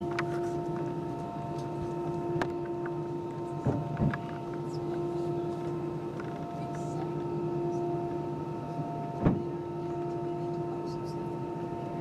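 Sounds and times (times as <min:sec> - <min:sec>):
airliner cabin hum: 0:00.0 - 0:12.0.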